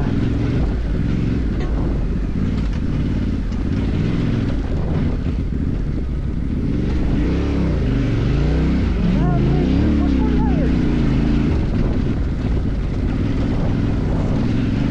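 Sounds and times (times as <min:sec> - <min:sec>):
motorcycle engine revving: 0:00.0 - 0:14.9
wind on microphone: 0:00.0 - 0:14.9.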